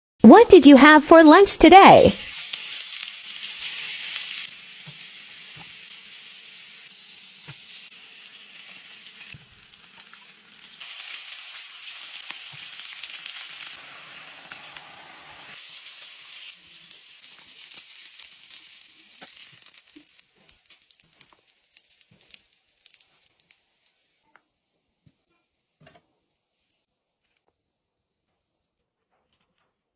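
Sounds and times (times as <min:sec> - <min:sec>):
food sizzling in a pan: 0:01.0 - 0:28.7.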